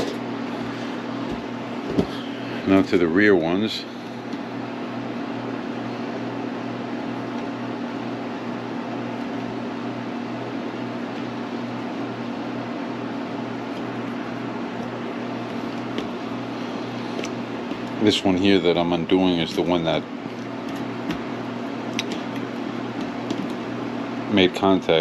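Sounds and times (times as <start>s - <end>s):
appliance mechanical hum: 0.0s - 25.0s.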